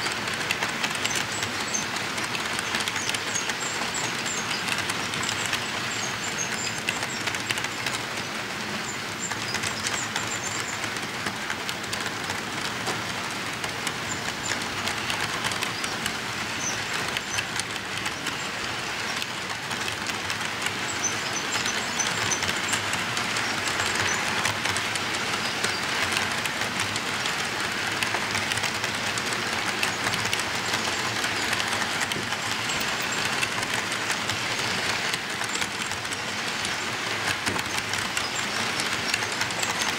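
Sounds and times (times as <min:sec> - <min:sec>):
model train wheels rolling on rails: 0:00.0 - 0:39.9.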